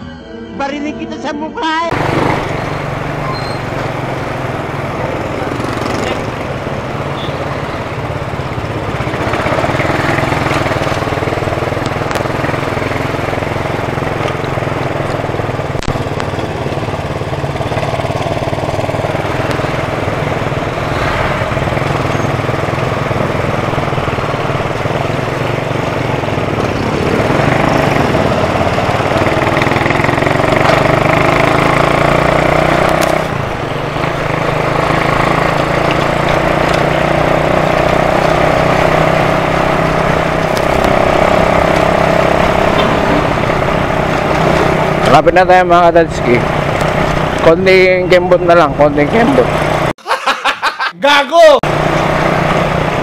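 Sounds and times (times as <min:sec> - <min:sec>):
motorcycle engine running: 0:01.9 - 0:49.9, 0:51.6 - 0:53.0.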